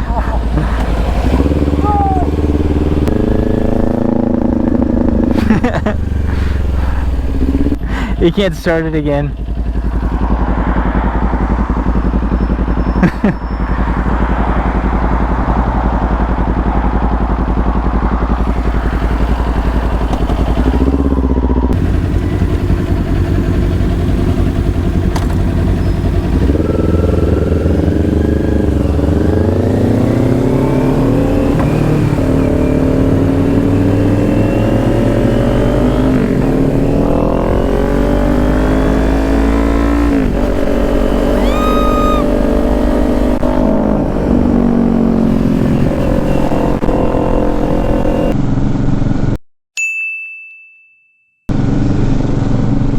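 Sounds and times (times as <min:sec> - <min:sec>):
motorcycle engine accelerating: 0:00.0 - 0:49.4, 0:51.5 - 0:52.9.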